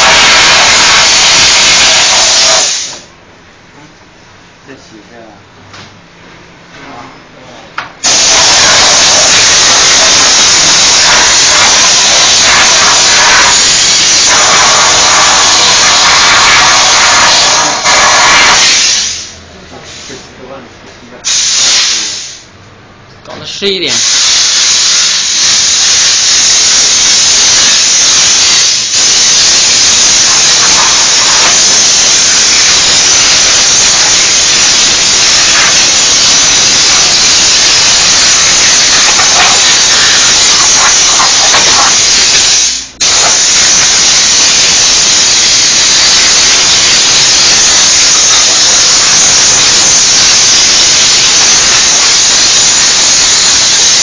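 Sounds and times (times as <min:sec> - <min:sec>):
steam cleaner hissing: 0:00.0 - 0:03.1, 0:08.0 - 0:19.4, 0:21.2 - 0:22.4, 0:23.9 - 0:54.0.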